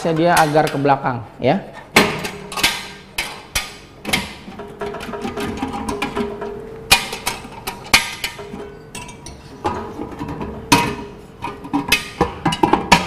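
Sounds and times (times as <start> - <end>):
metal knocks and clanks: 1.8 - 13.0.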